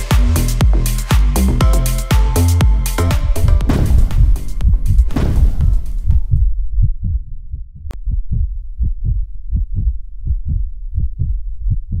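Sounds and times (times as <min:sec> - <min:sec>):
heartbeat thuds: 0:00.2 - 0:12.0.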